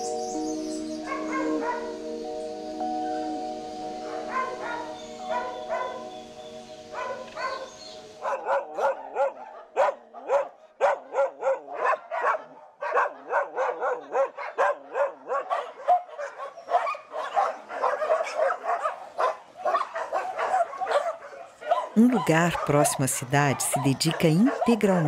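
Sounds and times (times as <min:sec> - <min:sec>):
dogs barking: 0:01.0 - 0:02.2, 0:04.0 - 0:06.2, 0:06.9 - 0:25.0.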